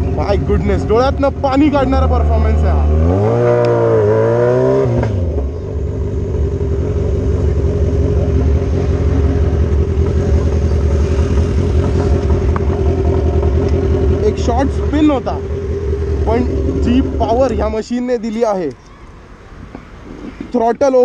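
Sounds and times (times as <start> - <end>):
motorcycle engine idling: 0.0 - 2.7, 5.2 - 20.0.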